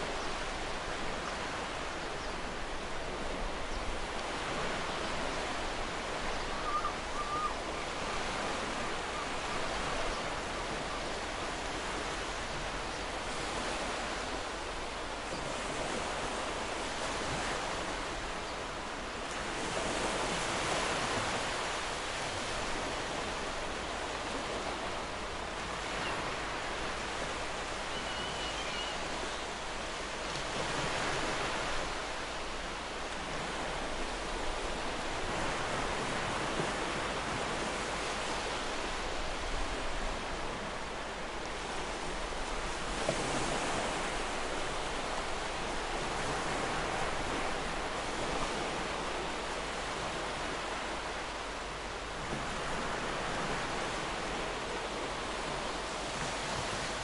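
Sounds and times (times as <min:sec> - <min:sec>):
ocean waves washing onto beach: 0:00.0 - 0:57.0.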